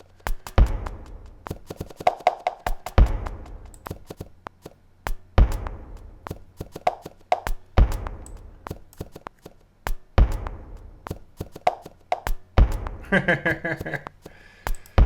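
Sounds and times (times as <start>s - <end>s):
sharp taps and clicks: 0.0s - 13.0s, 13.8s - 15.0s.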